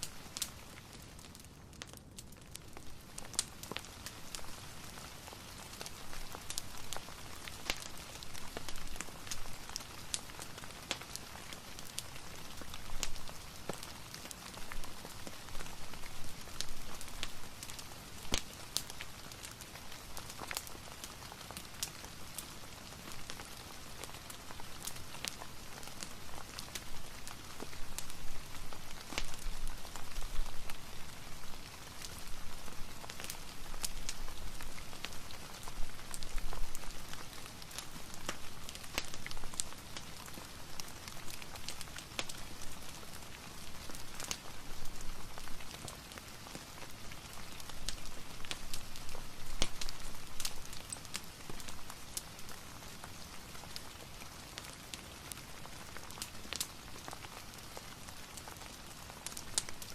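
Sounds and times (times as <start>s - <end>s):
fireplace crackling: 0.0s - 59.9s
steady rain: 0.0s - 59.9s.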